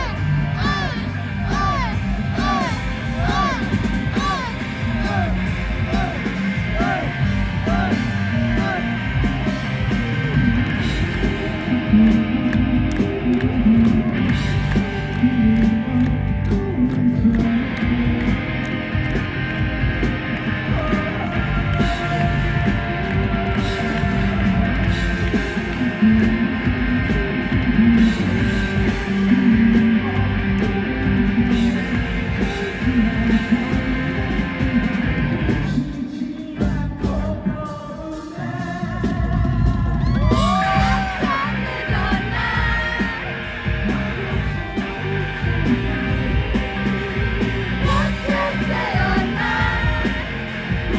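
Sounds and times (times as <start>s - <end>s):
man singing lead vocals: 0.0s - 14.0s, 20.5s - 44.4s, 46.8s - 50.9s
rock band playing live: 0.0s - 50.9s.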